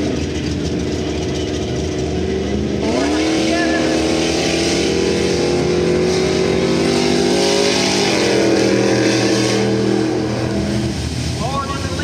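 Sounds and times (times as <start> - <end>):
pickup truck engines at full throttle: 0.0 - 12.0.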